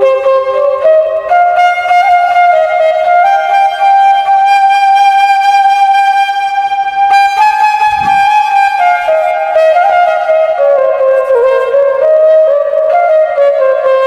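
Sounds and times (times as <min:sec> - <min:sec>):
bamboo flute melody: 0:00.0 - 0:14.0.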